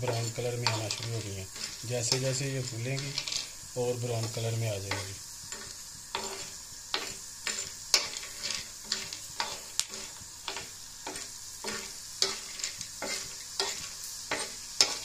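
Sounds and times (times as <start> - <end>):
faint frying sizzle: 0.0 - 15.0
metal spoon scraping pan: 0.0 - 15.0.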